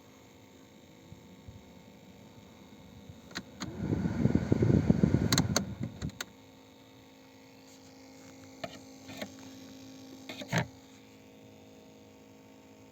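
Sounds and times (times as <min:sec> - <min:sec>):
faint electrical hum: 0:00.0 - 0:12.9.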